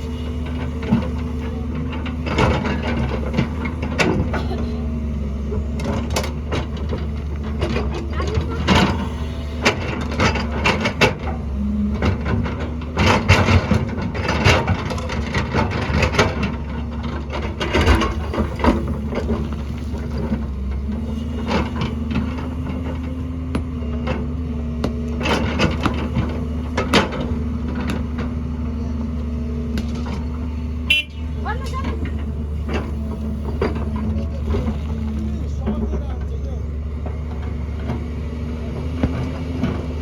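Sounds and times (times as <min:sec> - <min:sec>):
excavator engine running: 0:00.0 - 0:40.0.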